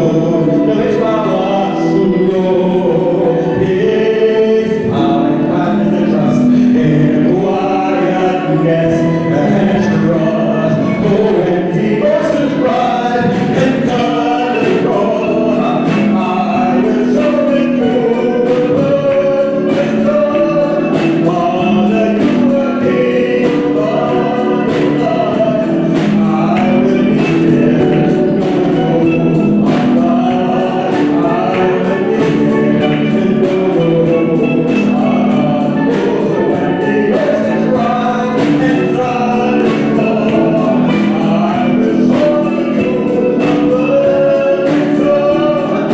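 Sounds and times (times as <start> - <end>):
gospel choir singing: 0.0 - 45.9
music with steady beat: 0.0 - 45.9.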